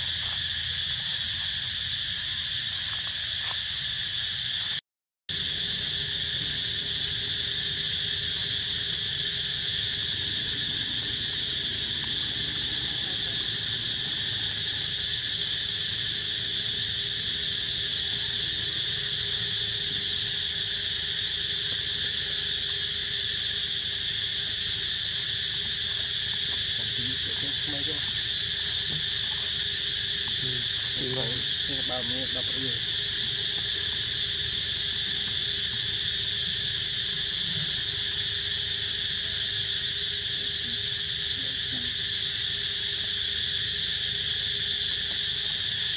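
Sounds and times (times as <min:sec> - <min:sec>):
insect chorus: 0:00.0 - 0:45.9.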